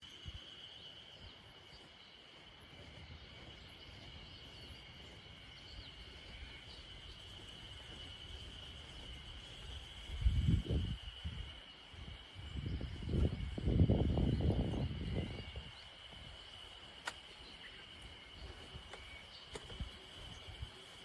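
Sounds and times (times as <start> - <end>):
insect chorus chirring: 0.0 - 21.0.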